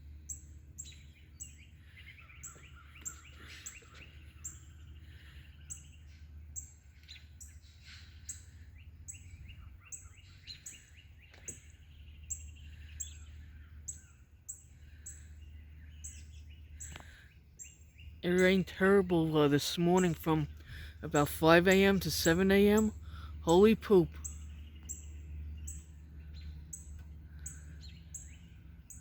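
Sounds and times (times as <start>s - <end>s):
small birds chattering: 0.0s - 29.0s.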